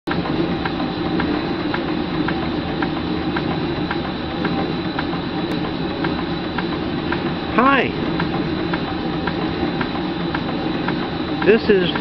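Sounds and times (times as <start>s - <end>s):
steam engine churning and hissing: 0.2s - 12.0s.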